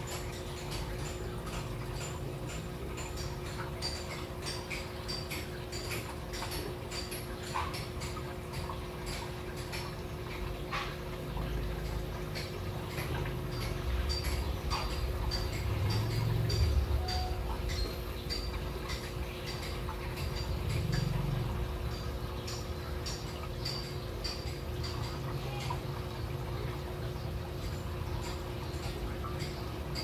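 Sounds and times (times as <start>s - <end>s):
small irregular clicks: 0.0s - 30.0s.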